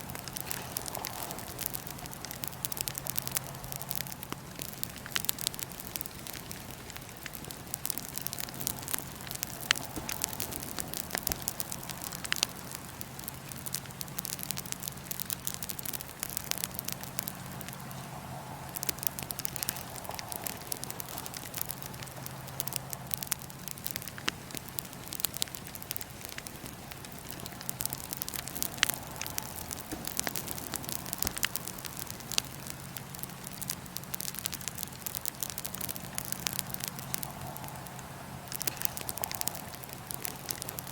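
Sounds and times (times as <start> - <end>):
flames rushing: 0.0 - 40.9
wood fire crackling and popping: 0.0 - 40.9.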